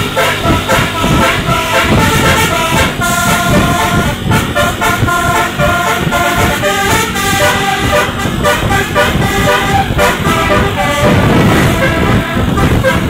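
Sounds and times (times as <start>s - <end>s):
bus musical horn tune: 0.0s - 13.0s
low rumble: 0.0s - 13.0s.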